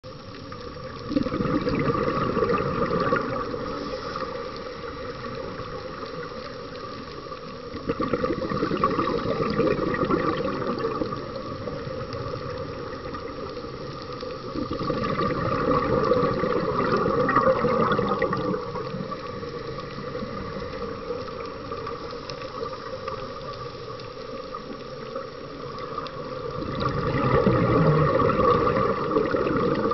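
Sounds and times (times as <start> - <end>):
underwater exhaled bubbles gurgling: 0.0 - 29.9
watery hiss: 0.8 - 29.9.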